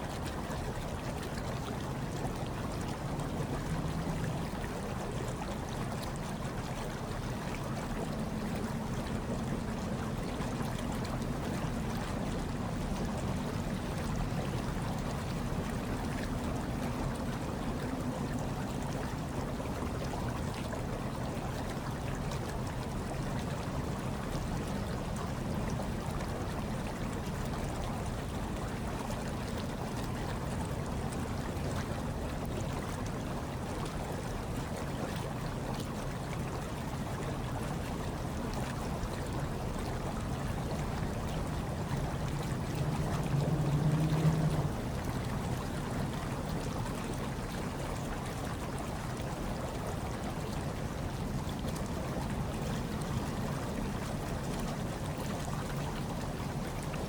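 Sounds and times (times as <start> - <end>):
hot tub water bubbling: 0.0 - 57.0.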